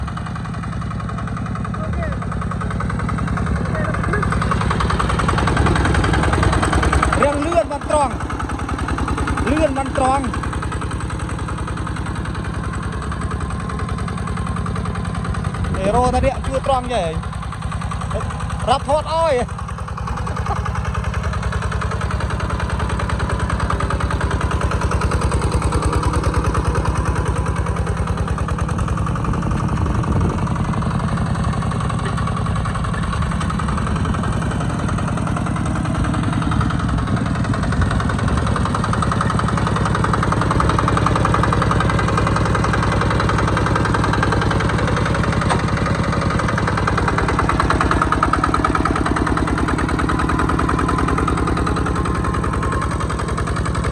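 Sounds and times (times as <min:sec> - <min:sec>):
diesel tractor engine running: 0:00.0 - 0:53.9.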